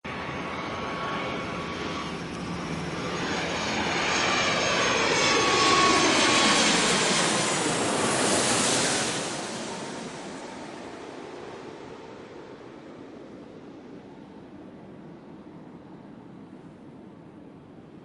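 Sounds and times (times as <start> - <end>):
airplane passing overhead: 0.1 - 18.0.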